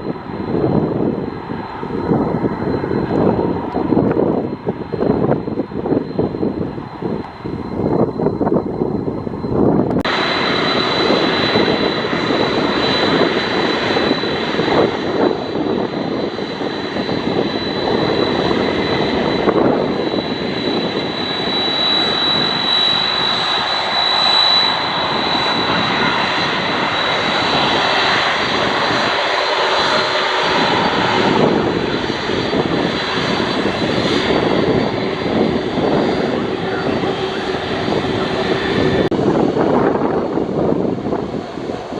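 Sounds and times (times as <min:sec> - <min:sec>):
high engine whine: 0:00.0 - 0:41.9
jet engines running: 0:00.0 - 0:41.9.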